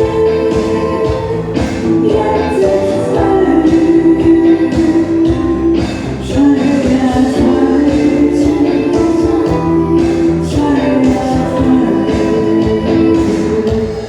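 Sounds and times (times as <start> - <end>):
pop song with drum beat: 0.0 - 14.0.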